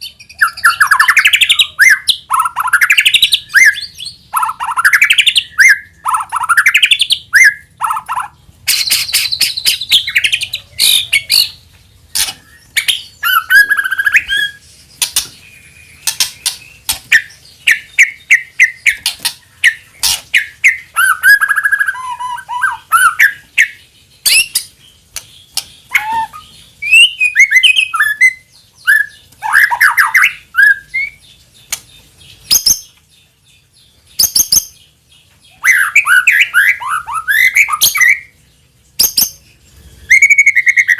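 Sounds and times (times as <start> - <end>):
songbird singing trills and whistles: 0.0 - 40.9.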